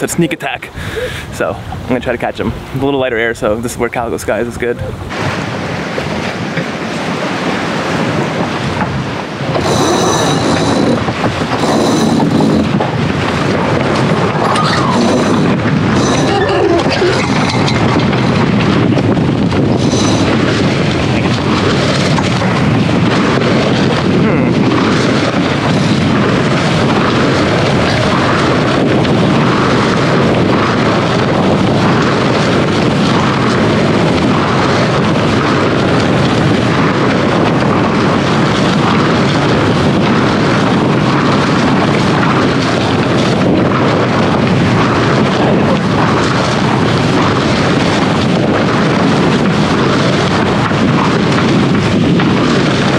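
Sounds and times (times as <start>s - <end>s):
sea rushing along hull: 0.0s - 52.9s
wind buffeting microphone: 0.0s - 52.9s.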